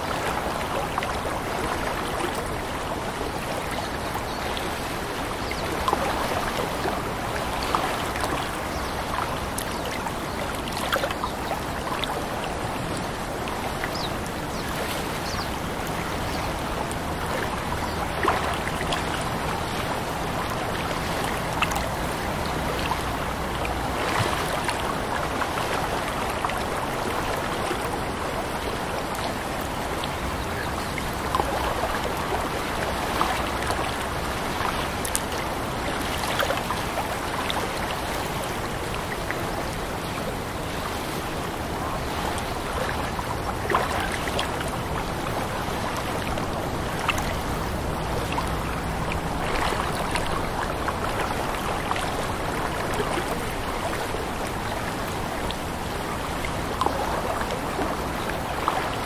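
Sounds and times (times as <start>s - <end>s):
lake water lapping and splashing: 0.0s - 59.0s.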